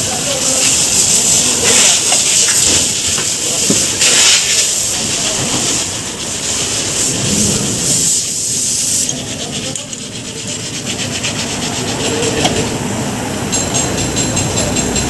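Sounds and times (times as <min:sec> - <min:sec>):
garage noise: 0:00.0 - 0:15.0
high hiss: 0:00.0 - 0:15.0.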